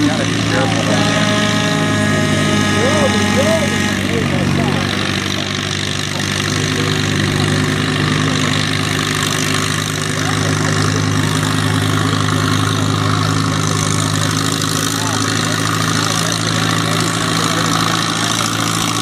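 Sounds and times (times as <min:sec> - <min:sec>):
tractor engine running steadily: 0:00.0 - 0:19.0.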